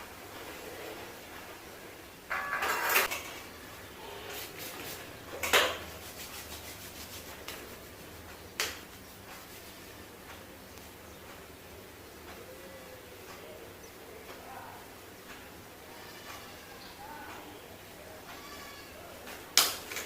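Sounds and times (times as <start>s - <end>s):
quiet room noise: 0.0s - 20.0s.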